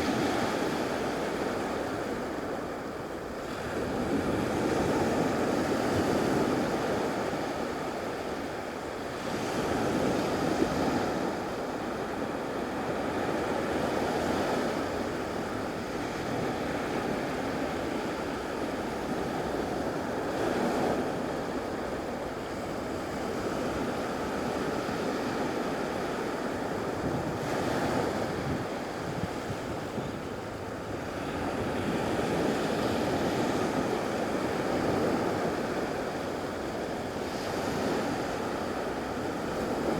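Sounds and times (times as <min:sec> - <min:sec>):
ocean waves breaking ashore: 0:00.0 - 0:39.9.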